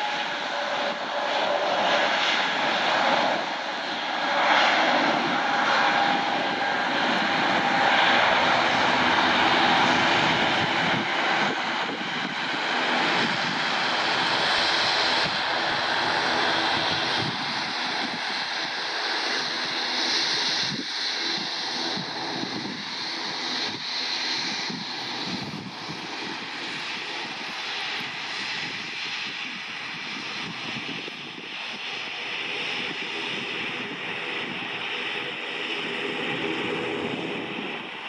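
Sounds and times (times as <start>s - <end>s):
jet aircraft taking off: 0.0s - 38.0s.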